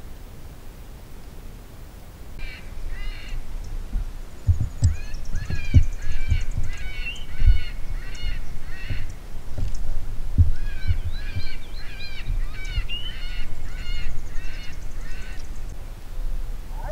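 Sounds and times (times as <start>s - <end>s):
low thumps: 2.4s - 16.9s.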